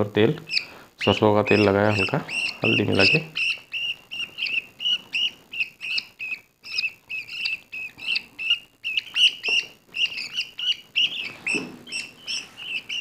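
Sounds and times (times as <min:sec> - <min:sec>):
budgerigar chicks chirping: 0:00.2 - 0:13.0.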